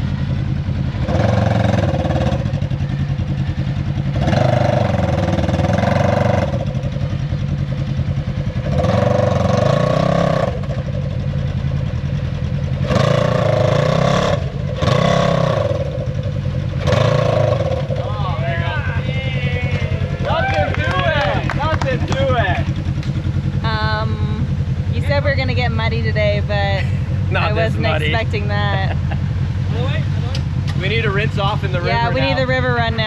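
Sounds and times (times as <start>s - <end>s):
utility vehicle engine revving: 0.0s - 33.0s.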